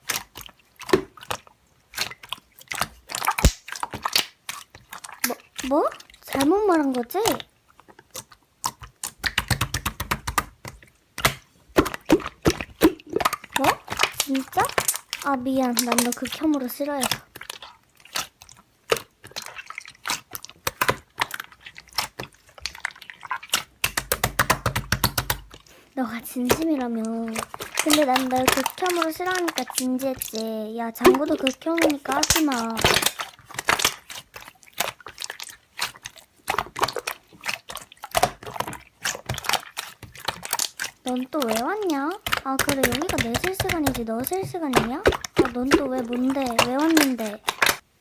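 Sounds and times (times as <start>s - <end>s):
slime squished by hand: 0.0s - 47.9s.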